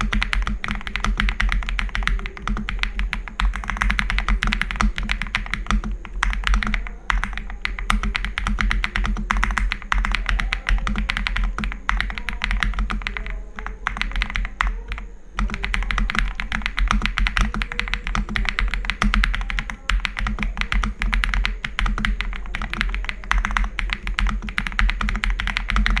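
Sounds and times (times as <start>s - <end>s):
mechanical keyboard typing: 0.0s - 26.0s.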